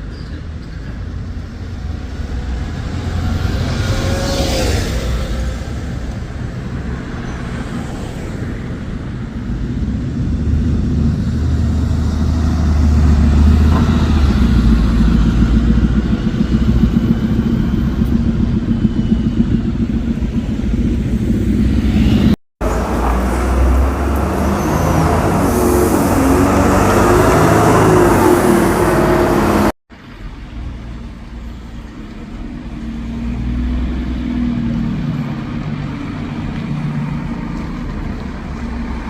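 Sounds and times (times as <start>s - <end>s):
diesel bus engine rumbling: 0.0s - 39.0s.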